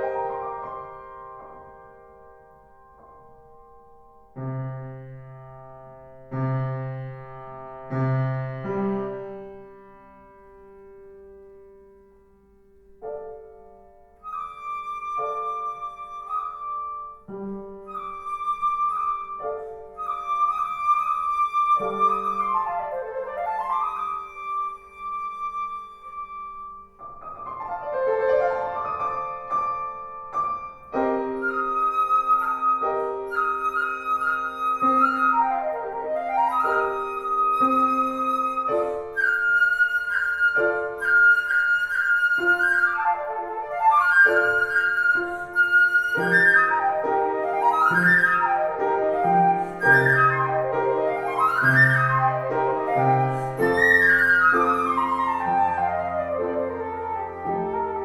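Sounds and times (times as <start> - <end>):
flute melody: 0.0 - 3.1, 4.4 - 10.2, 13.0 - 58.0
piano chords: 0.0 - 58.0.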